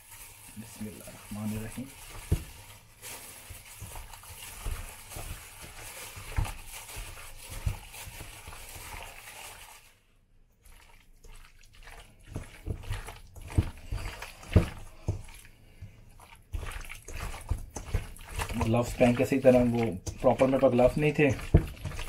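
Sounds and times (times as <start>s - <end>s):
hand squishing wet marinade: 0.0s - 22.0s.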